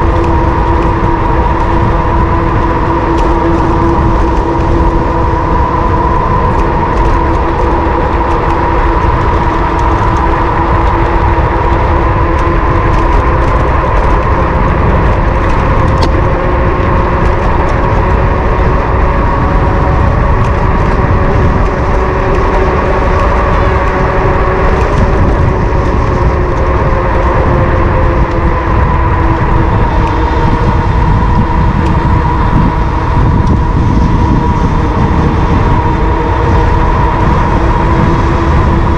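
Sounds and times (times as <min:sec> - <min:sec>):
electric motor whine: 0:00.0 - 0:38.9
wind buffeting microphone: 0:00.0 - 0:38.9.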